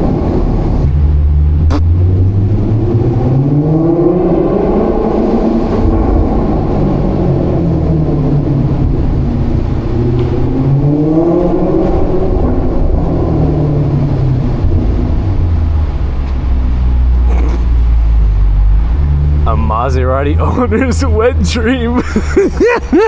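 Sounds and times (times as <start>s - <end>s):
car engine exhaust drone: 0.0s - 23.0s.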